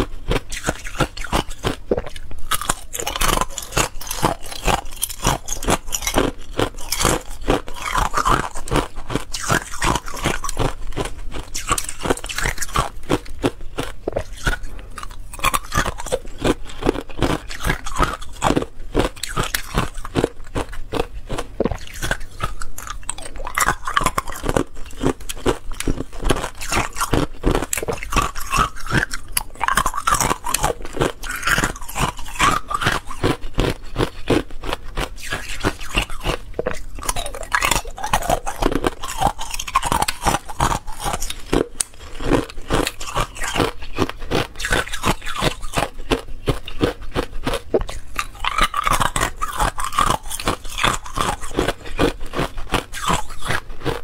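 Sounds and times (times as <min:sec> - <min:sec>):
ice cubes being chewed: 0:00.0 - 0:54.0.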